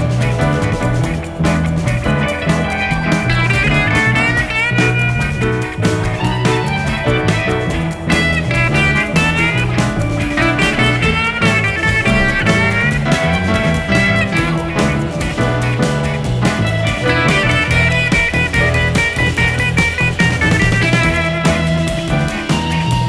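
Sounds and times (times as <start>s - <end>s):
blues-rock guitar music: 0.0s - 23.0s.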